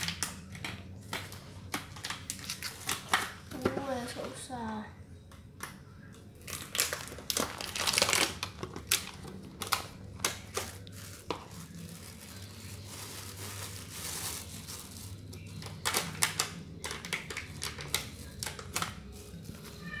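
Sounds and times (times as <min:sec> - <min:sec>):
plastic bag rustling: 0:01.3 - 0:04.5, 0:06.4 - 0:20.0.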